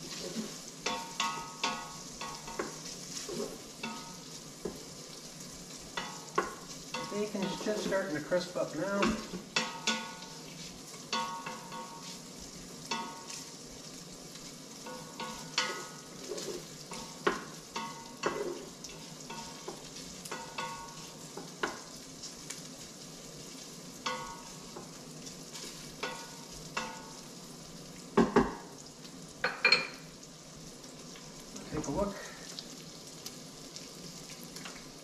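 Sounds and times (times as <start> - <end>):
bacon sizzling: 0.0 - 35.0.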